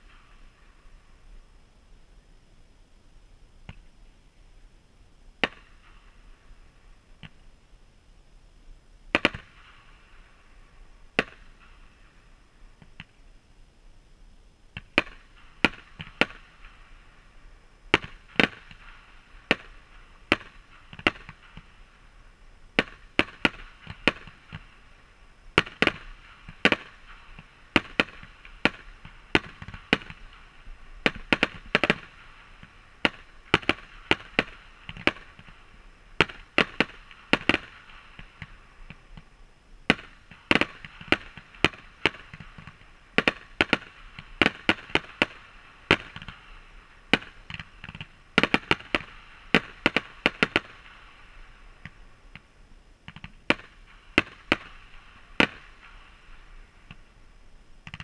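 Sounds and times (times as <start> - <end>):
steady hiss: 0.0 - 58.0
fireworks bangs: 5.4 - 7.5, 9.1 - 13.2, 14.7 - 57.1.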